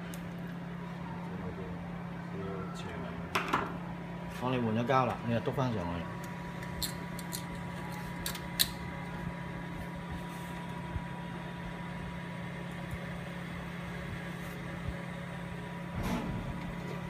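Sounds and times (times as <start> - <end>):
printer fan hum: 0.0 - 17.0.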